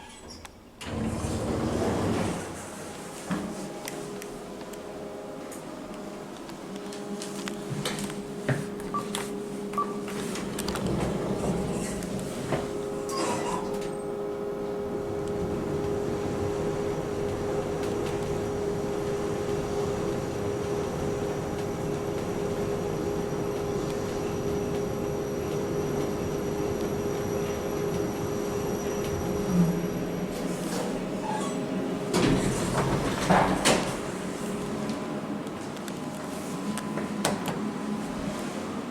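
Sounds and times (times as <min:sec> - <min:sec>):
lift cab humming: 0:00.0 - 0:38.9.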